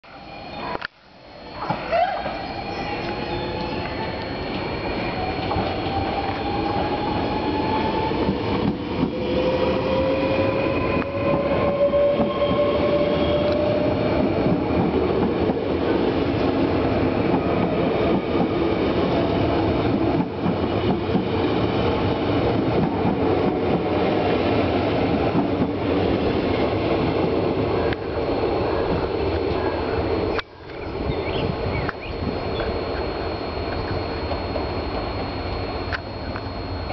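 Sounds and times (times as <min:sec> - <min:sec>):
train traction motors whining: 0:00.0 - 0:36.9
train wheels rumbling on rails: 0:01.6 - 0:35.2.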